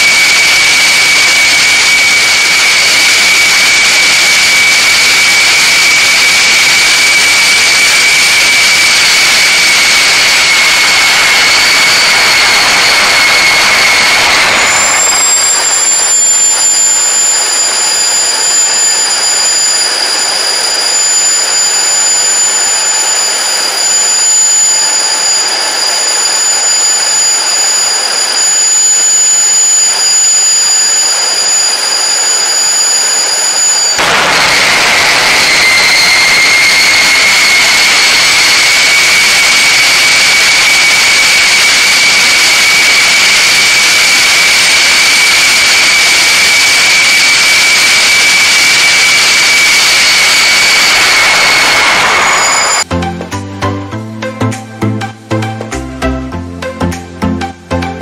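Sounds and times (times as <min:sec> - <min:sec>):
jet engine roaring and whistling: 0:00.0 - 0:53.2.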